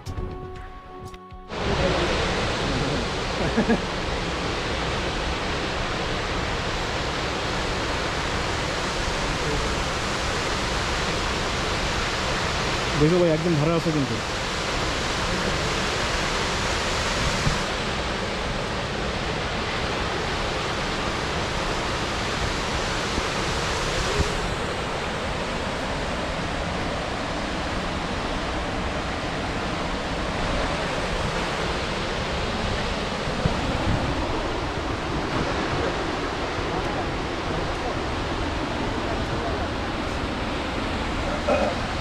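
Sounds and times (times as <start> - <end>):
rushing white water: 1.5 - 42.0.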